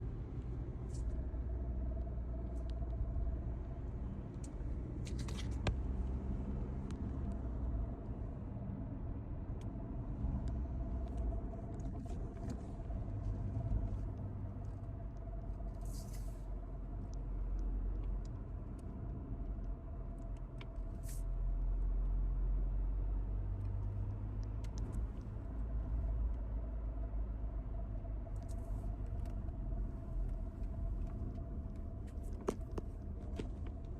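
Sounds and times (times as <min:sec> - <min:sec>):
car low rumble: 0:00.0 - 0:33.9.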